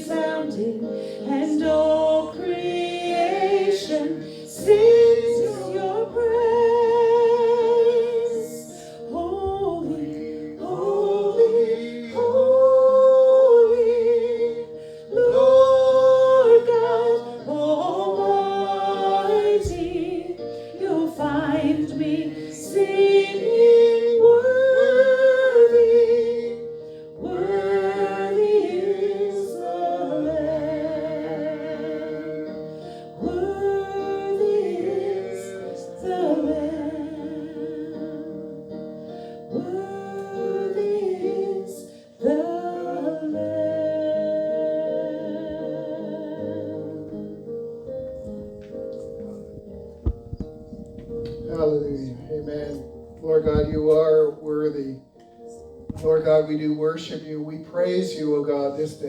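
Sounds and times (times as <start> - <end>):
steady musical accompaniment: 0.0 - 59.0
worship song sung in church: 0.0 - 59.0.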